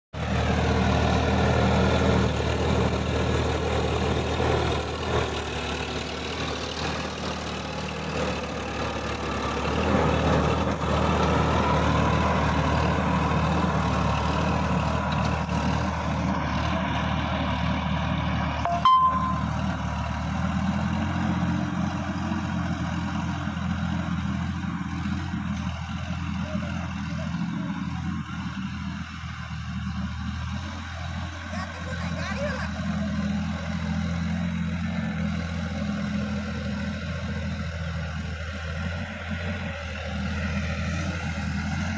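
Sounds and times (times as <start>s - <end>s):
tractor diesel engine running: 0.1s - 41.9s.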